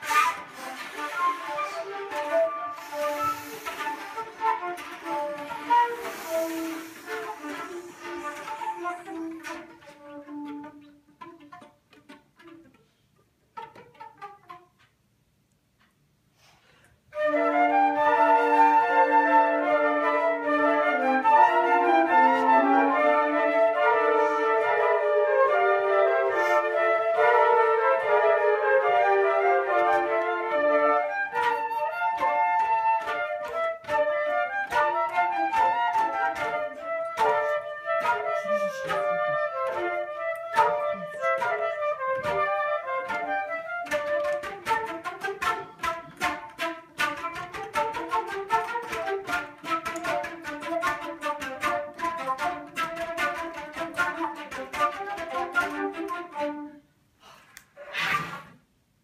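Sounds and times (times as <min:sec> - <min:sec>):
flute ensemble playing: 0:00.0 - 0:13.0, 0:17.1 - 0:57.1.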